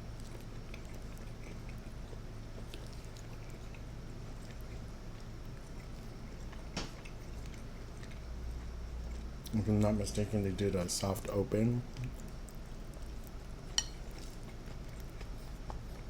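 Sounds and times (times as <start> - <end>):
close chewing: 0.0 - 10.0, 11.2 - 16.0.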